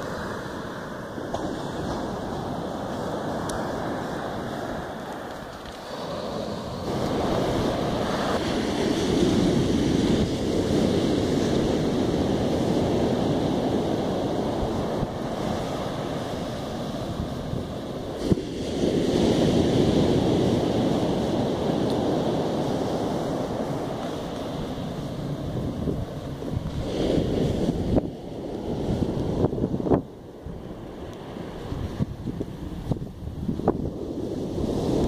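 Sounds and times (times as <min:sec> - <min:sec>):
waves breaking on beach: 0:00.0 - 0:35.0
wind on microphone: 0:00.0 - 0:35.0.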